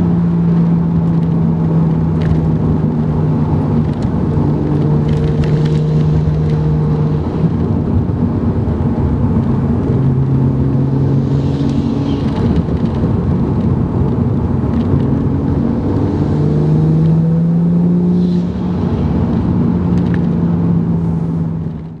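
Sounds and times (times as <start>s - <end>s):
car engine exhaust drone: 0.0s - 22.0s.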